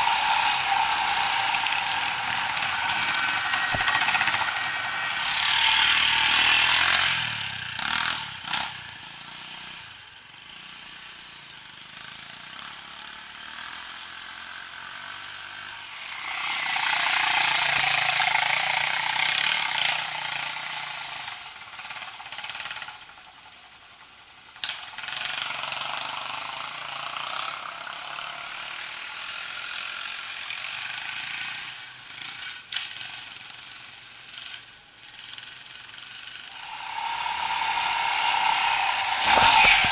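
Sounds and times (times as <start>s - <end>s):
motorcycle engine revving: 0.0s - 22.1s, 24.9s - 39.9s.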